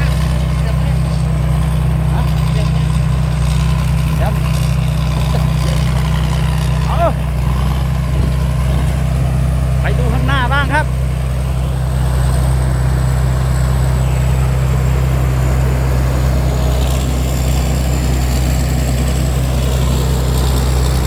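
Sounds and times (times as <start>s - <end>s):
combine harvester engine droning: 0.0s - 21.0s.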